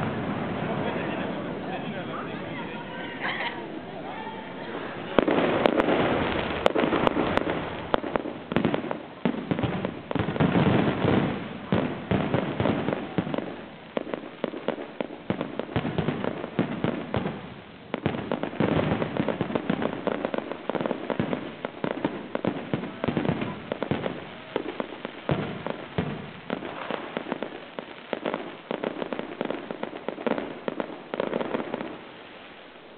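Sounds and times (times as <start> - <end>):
fireworks bangs and crackling: 0.0 - 32.9.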